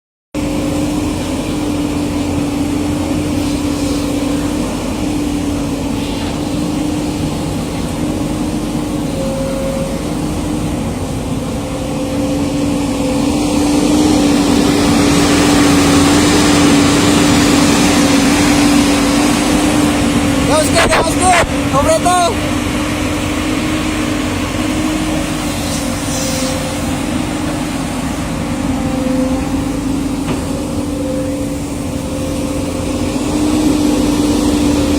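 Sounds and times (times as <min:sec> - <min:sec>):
excavator diesel engine running: 0:00.3 - 0:34.9
constant whine: 0:00.4 - 0:34.9.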